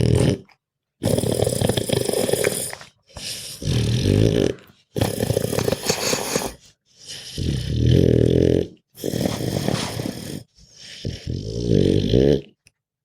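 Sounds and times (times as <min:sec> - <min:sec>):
dog grunting and breathing raspily: 0:00.0 - 0:12.5.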